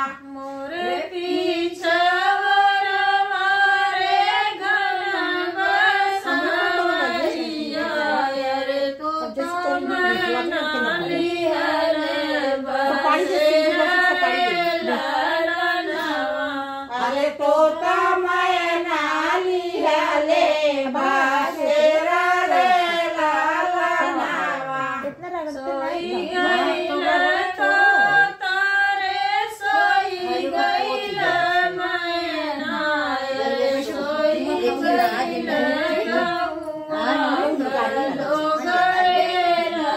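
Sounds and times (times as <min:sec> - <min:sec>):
women singing folk song: 0:00.0 - 0:39.9.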